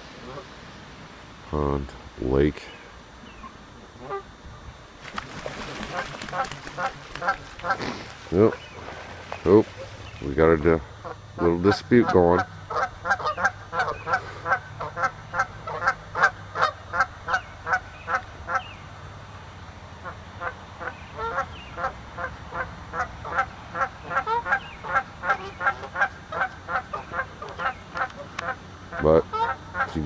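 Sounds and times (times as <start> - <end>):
geese honking: 3.3 - 4.3, 5.5 - 18.8, 20.0 - 30.0.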